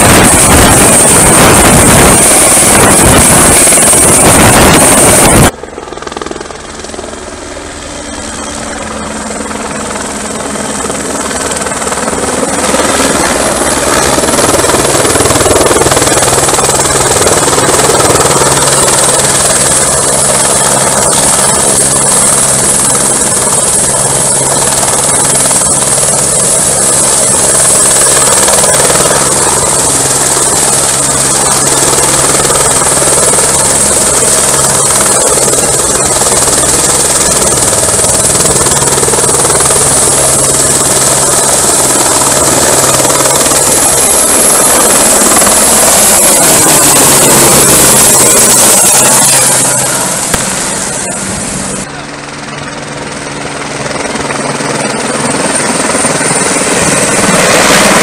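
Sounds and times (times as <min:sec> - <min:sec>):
high whine: 0:00.0 - 0:06.3, 0:08.4 - 0:52.4
helicopter rotor noise: 0:00.0 - 0:58.0.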